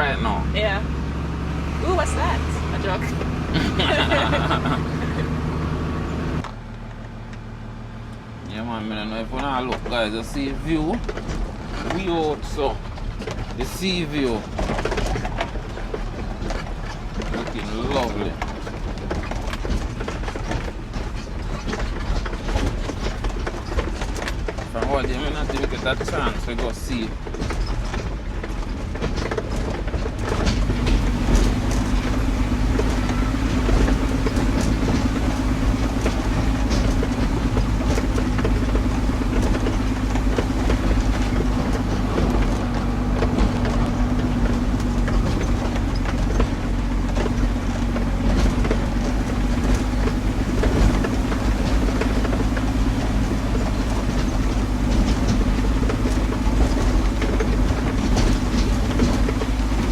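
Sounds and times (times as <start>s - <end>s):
truck cab rattling: 0.0s - 59.9s
truck engine droning: 0.0s - 59.9s.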